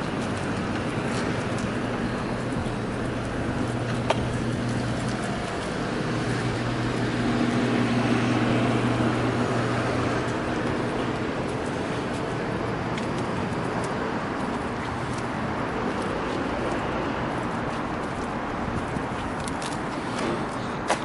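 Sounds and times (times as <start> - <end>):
city background noise: 0.0 - 21.0
low mechanical hum: 0.0 - 21.0.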